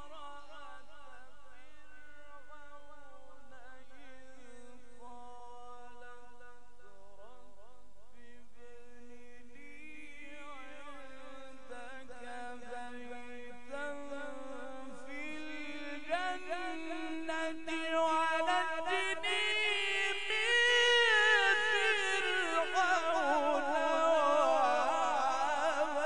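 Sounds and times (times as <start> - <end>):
man chanting recitation: 0.0 - 26.0.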